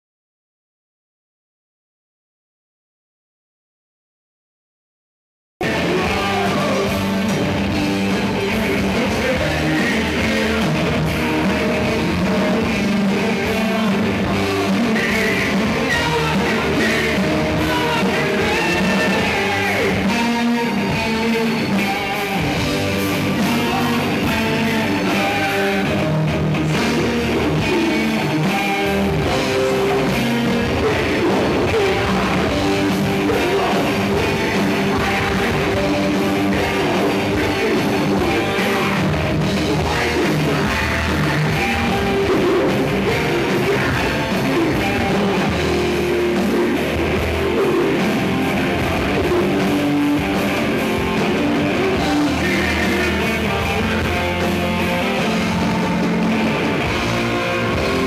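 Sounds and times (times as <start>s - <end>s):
electric guitar: 5.6s - 58.0s
person singing: 5.6s - 58.0s.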